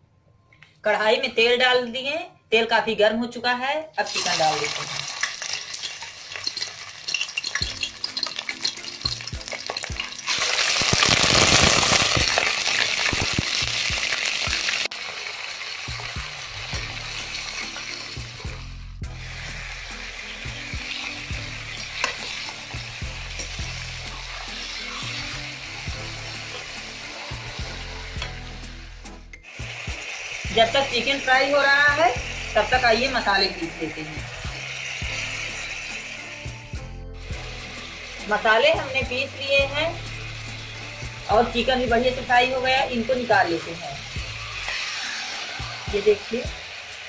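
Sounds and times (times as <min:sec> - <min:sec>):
chicken sizzling in hot oil: 0:04.0 - 0:47.0.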